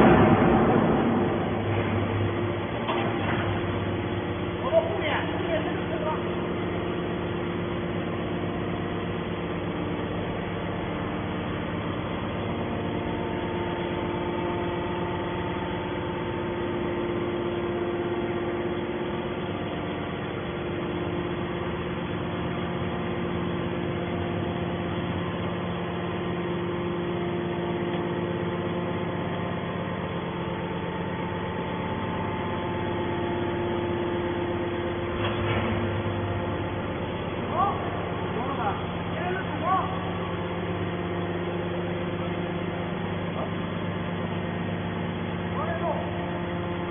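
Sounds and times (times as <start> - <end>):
hydraulic baler humming: 0.0 - 46.9.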